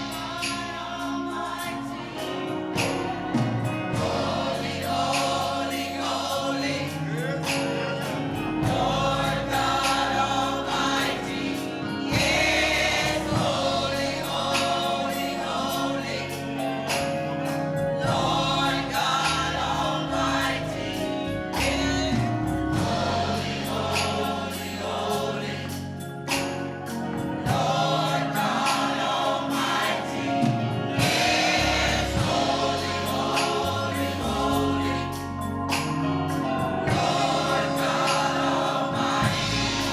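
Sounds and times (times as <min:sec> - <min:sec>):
choir singing gospel music: 0:00.0 - 0:39.9
instrumental accompaniment with beat: 0:00.0 - 0:39.9.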